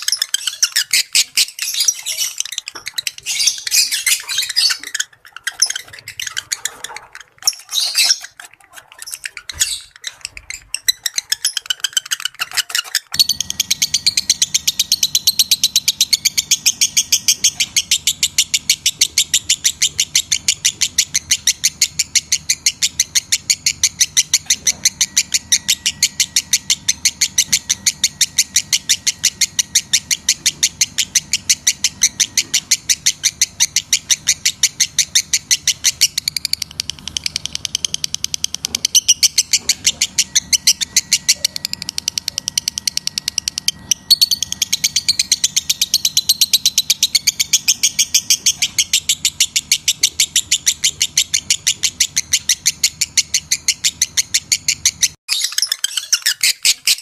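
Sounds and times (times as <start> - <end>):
bird chattering trill: 0.0 - 57.0
bird chirping and squawking: 0.0 - 57.0.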